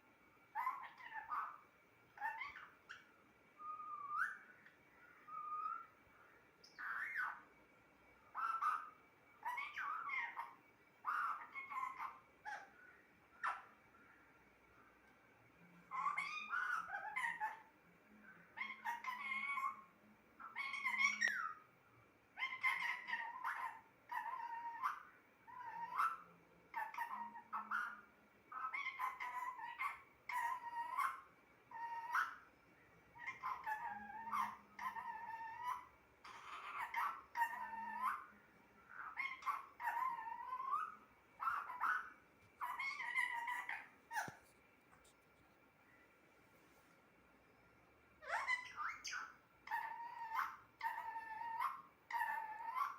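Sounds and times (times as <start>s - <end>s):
parrot talking: 0.5s - 4.5s, 5.1s - 6.0s, 6.6s - 7.5s, 8.3s - 12.8s, 13.4s - 13.8s, 15.8s - 21.6s, 22.4s - 32.5s, 33.2s - 44.5s, 48.2s - 52.9s.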